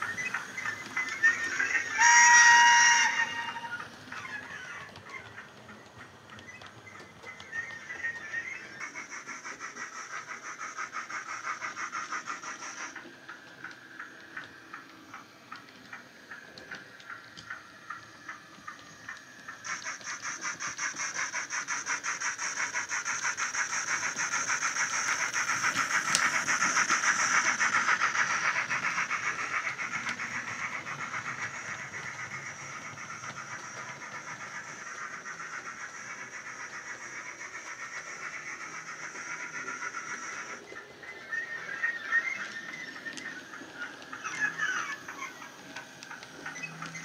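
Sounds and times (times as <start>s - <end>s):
steam hiss: 0.0s - 47.0s.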